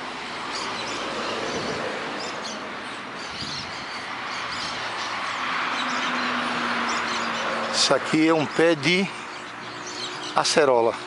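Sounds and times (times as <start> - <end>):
birds chirping: 0.0 - 11.0
city noise hiss: 0.0 - 11.0.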